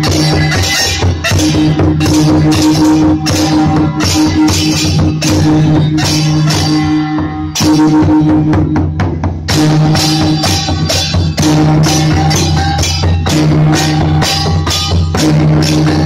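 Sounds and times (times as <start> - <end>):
ringing held pitch: 0.0 - 8.9, 9.6 - 16.0
barrel drum beating: 0.0 - 16.0
hand cymbals: 0.0 - 16.0
hanging gong: 0.0 - 16.0.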